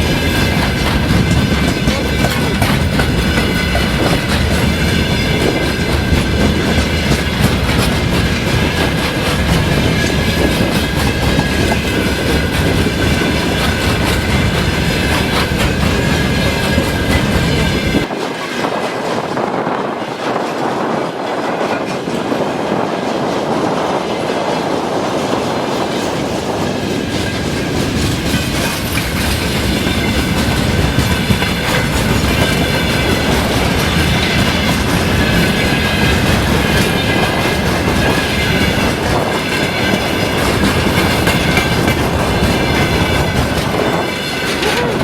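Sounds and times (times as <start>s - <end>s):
train wheels clattering: 0.0s - 45.0s.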